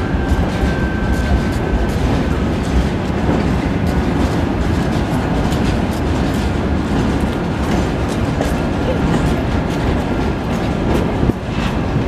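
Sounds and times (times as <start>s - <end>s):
freight wagons rumbling on tracks: 0.0s - 12.0s
wheels clicking over rail joints: 0.0s - 12.0s.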